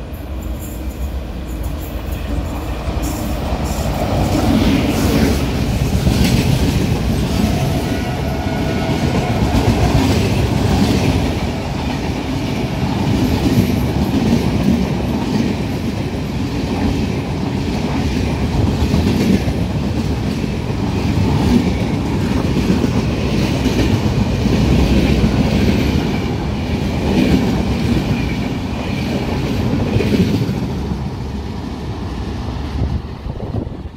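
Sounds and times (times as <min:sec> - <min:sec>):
train coaches rumbling past: 0:00.0 - 0:33.9.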